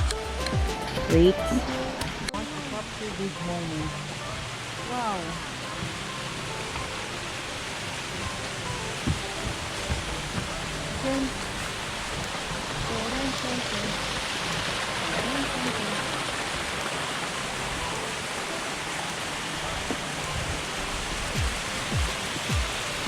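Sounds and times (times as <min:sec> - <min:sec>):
faint voices: 0:00.0 - 0:23.0
waterfall rushing: 0:00.0 - 0:23.0.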